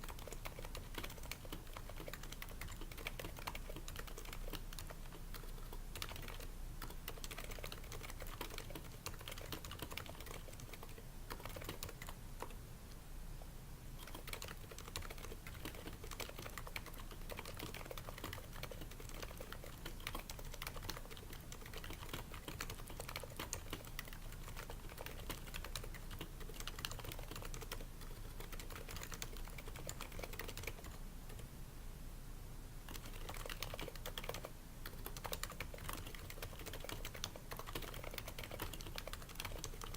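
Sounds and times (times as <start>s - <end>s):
keyboard typing: 0.0s - 12.6s, 14.0s - 31.5s, 32.9s - 39.9s.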